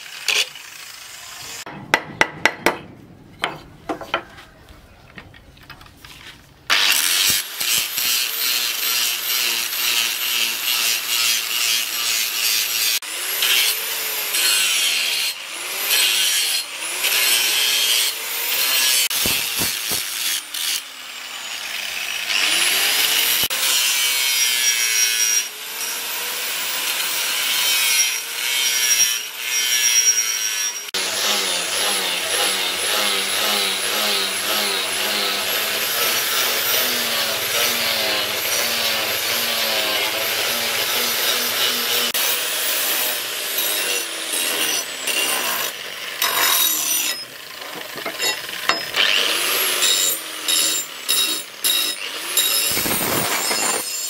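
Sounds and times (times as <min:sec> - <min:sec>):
angle grinder grinding steel: 0:00.0 - 0:01.8, 0:06.7 - 0:54.0.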